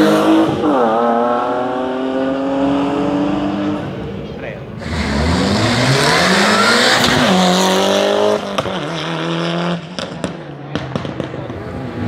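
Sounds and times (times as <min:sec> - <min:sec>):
racing car engine at full throttle: 0:00.0 - 0:12.0.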